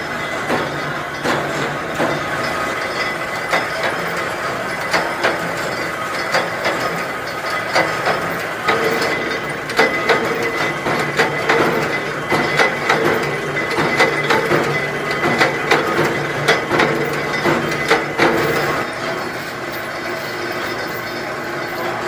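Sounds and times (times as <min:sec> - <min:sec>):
machinery humming: 0:00.0 - 0:22.0
metallic clicks and clatters: 0:00.0 - 0:22.0.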